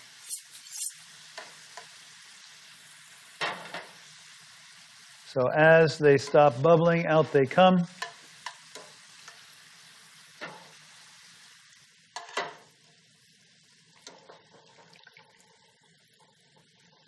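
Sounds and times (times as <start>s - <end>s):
chips sizzling in oil: 0.0s - 17.0s.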